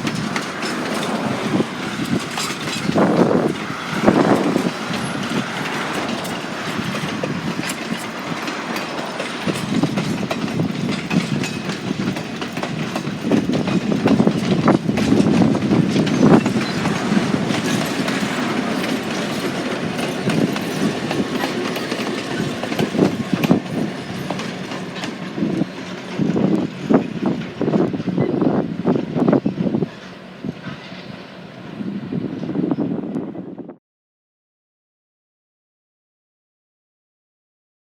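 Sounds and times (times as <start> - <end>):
wheels clattering over rail joints: 0.0 - 33.0
train rumbling past: 0.0 - 33.8.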